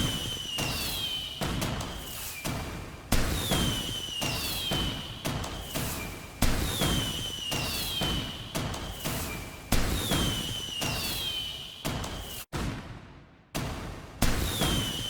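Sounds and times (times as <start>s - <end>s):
falling firework whistle: 0.0s - 12.5s, 14.2s - 15.0s
fireworks bangs and pops: 0.0s - 15.0s.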